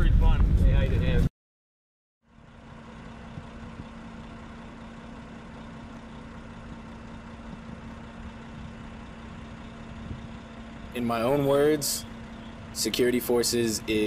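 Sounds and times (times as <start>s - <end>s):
engine idling: 2.2s - 14.0s.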